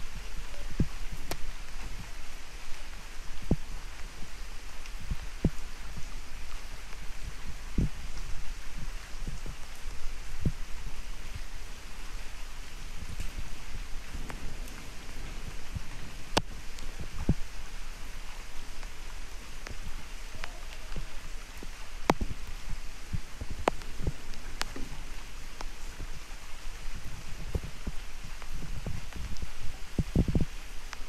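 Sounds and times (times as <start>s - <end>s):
steady rain hiss: 0.0s - 31.0s
water drips striking surfaces: 0.5s - 2.1s, 2.7s - 31.0s.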